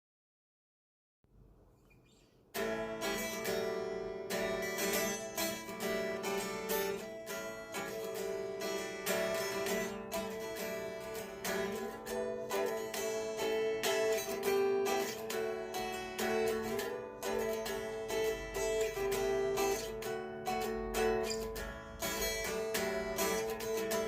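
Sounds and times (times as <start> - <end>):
unplugged electric guitar chords: 2.6 - 24.0.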